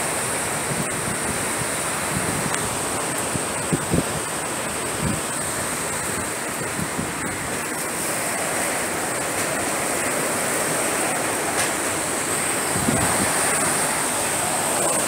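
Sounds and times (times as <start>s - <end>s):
wind buffeting microphone: 0.0s - 15.0s
strong wind rushing: 0.6s - 7.7s, 10.0s - 15.0s.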